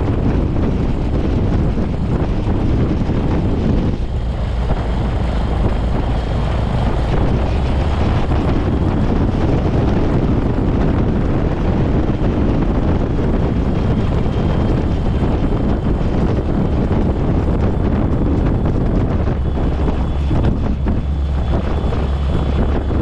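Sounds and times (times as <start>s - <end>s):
propeller plane engine running: 0.0s - 23.0s
wind buffeting microphone: 0.0s - 23.0s.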